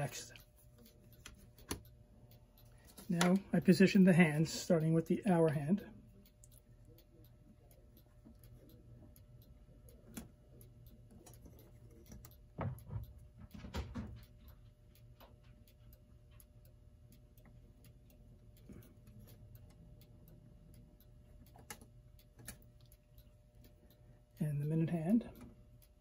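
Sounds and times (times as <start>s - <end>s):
clock ticking softly: 0.0s - 26.0s.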